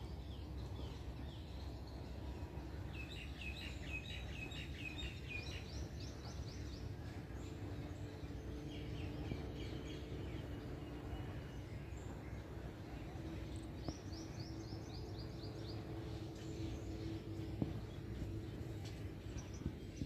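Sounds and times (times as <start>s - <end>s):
faint steady low hum: 0.0s - 20.0s
small birds chirping: 0.0s - 20.0s.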